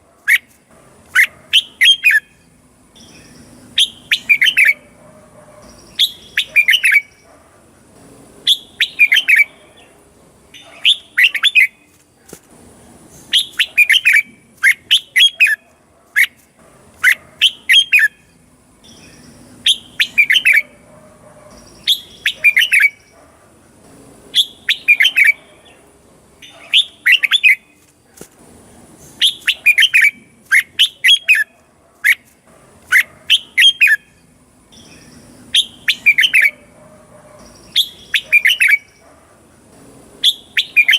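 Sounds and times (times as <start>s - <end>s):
bulbul singing: 0.2s - 7.3s, 8.4s - 12.0s, 13.0s - 15.6s, 16.2s - 23.2s, 24.3s - 27.8s, 28.9s - 39.1s, 40.2s - 40.9s.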